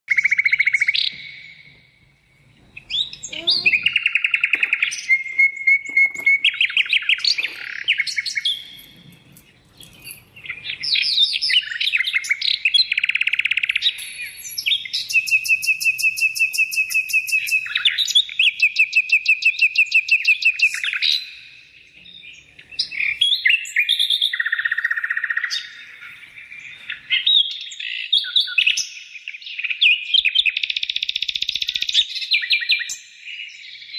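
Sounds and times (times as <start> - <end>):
songbird trilling and chirping: 0.1 - 33.9.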